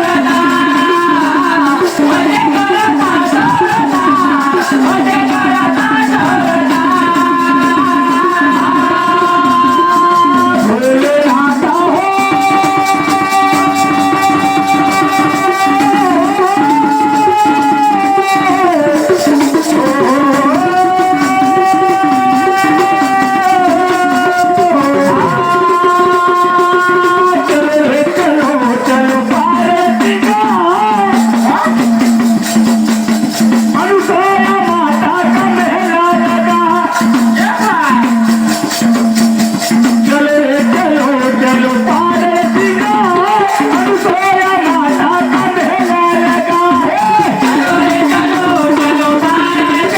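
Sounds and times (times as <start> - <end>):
person singing devotional song: 0.0 - 49.9
rattling shaker percussion: 0.0 - 49.9.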